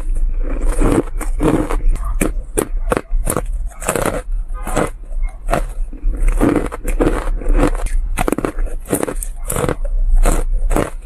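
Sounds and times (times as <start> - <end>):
ice crunching between teeth: 0.0 - 11.0.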